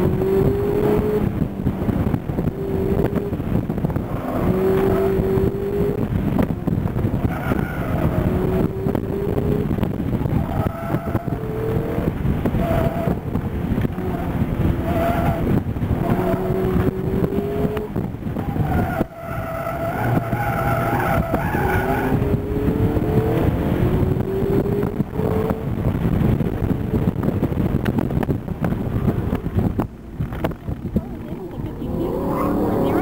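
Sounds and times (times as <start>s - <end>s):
car engine at high revs: 0.0s - 33.0s.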